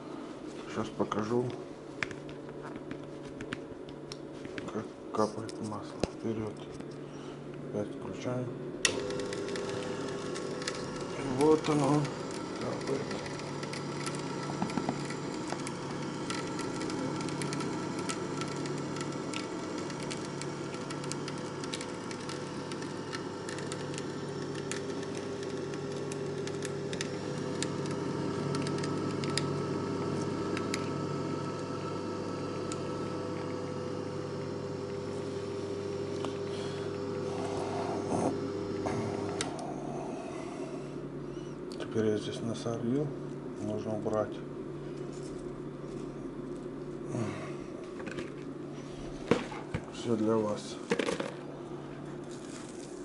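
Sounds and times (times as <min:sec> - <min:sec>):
oil press motor hum: 0:06.9 - 0:53.0.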